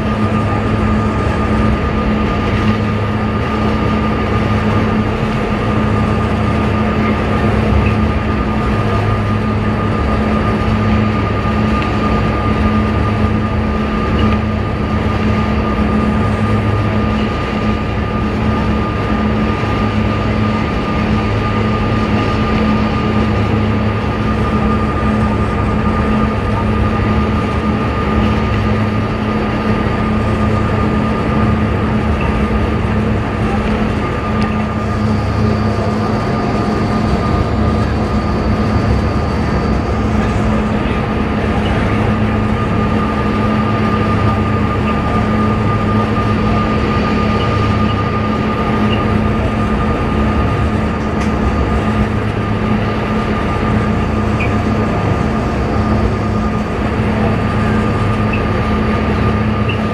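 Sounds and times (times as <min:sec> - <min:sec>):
ferry engines droning: 0:00.0 - 0:59.9.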